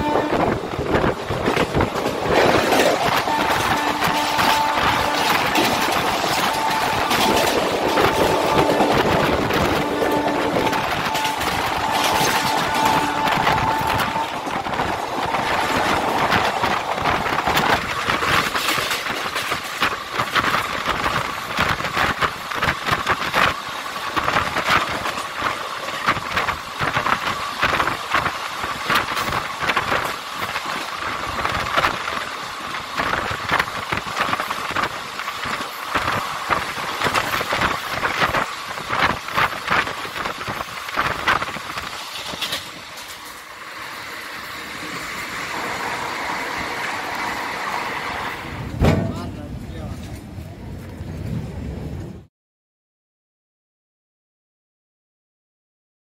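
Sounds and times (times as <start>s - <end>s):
train wheels clattering: 0.0s - 50.3s
train running noise: 0.0s - 52.3s.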